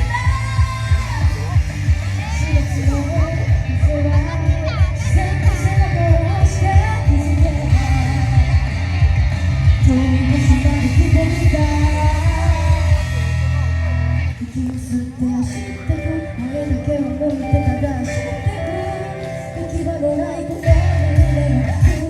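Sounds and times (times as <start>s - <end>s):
pop-rock song with singing: 0.0s - 22.0s.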